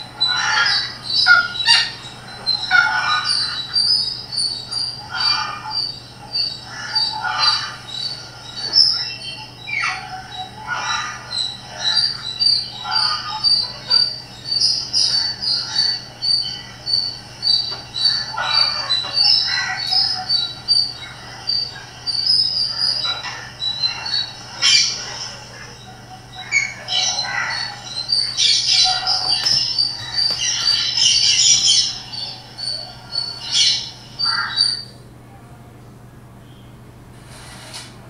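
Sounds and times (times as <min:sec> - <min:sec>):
parrot chirping and squawking: 0:00.0 - 0:35.0.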